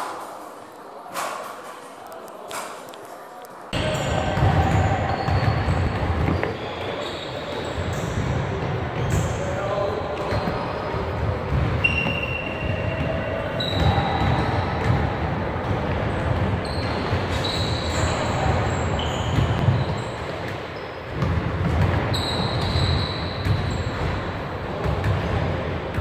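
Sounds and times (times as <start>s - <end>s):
sneakers squeaking: 2.5s - 26.0s.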